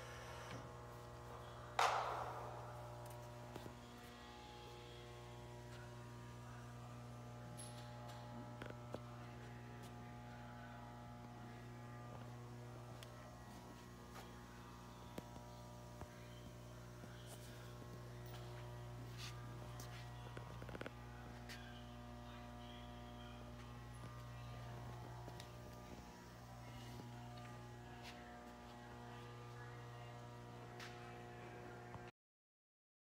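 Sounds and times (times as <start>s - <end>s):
electrical hum: 0.0s - 32.1s.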